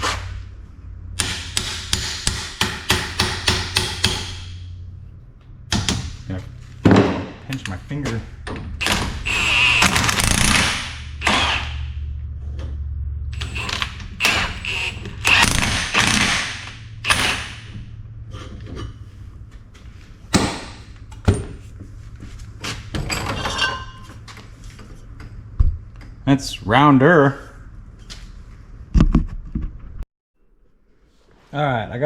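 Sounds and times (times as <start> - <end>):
steady low hum: 0.0 - 31.3.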